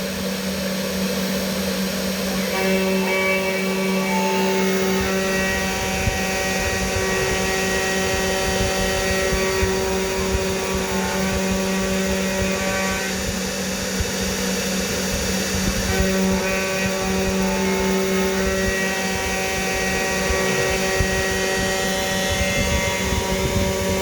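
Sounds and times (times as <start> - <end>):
spindle whine: 0.0 - 24.0
cutter crackling on metal: 1.7 - 24.0.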